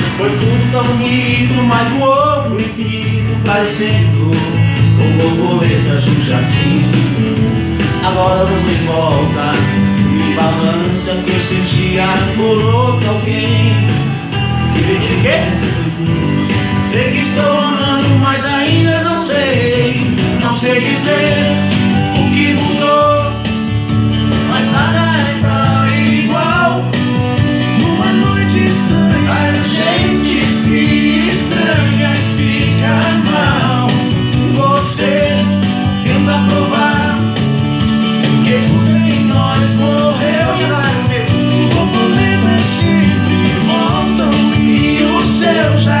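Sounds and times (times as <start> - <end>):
romantic song with band: 0.0 - 46.0.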